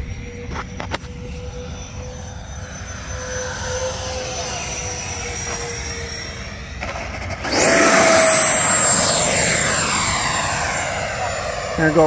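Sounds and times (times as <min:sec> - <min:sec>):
model jet fan whining: 0:00.0 - 0:12.0.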